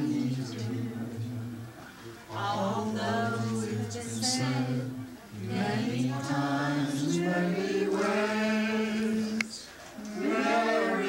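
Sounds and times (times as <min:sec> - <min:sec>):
group singing without instruments: 0:00.0 - 0:11.0.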